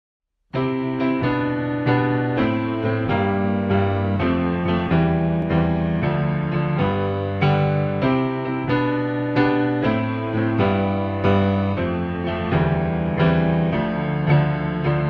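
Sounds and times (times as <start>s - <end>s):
soft piano-like keyboard music: 0.6s - 15.0s.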